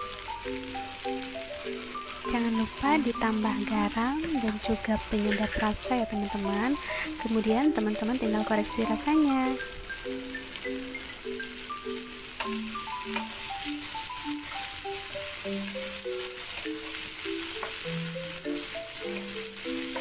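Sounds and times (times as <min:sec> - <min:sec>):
beans sizzling in a wok: 0:00.0 - 0:20.0
simple background melody: 0:00.0 - 0:20.0
wooden spatula scraping a pan: 0:01.3 - 0:20.0.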